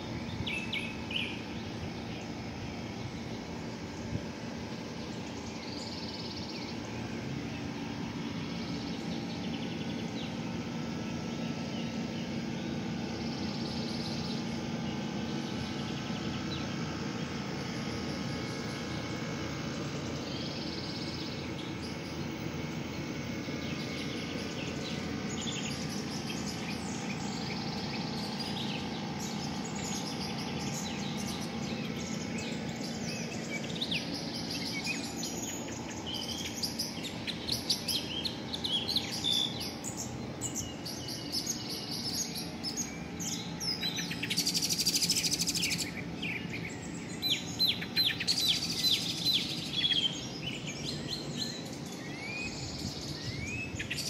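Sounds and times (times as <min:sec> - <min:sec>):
low background hum: 0:00.0 - 0:54.0
small birds chirping: 0:00.0 - 0:54.0.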